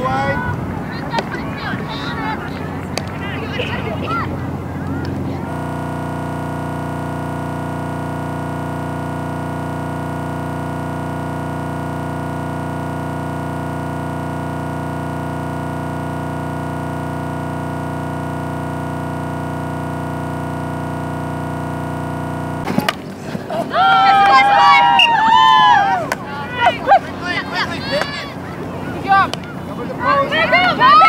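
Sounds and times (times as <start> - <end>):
steady electronic buzz: 3.2 - 22.9, 24.6 - 31.0.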